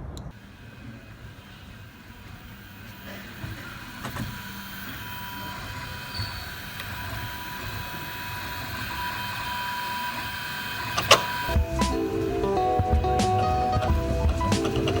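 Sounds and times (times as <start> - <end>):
printer stepper motors whining: 0.3 - 15.0.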